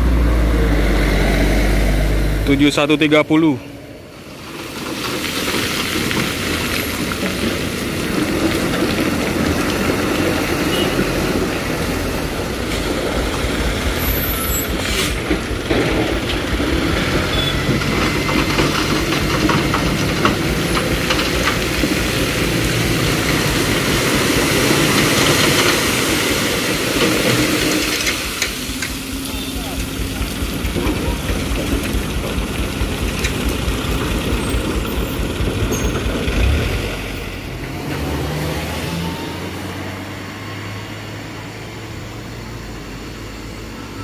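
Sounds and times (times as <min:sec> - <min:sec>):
bus diesel engine rumbling: 0:00.0 - 0:44.0
road traffic: 0:00.0 - 0:44.0.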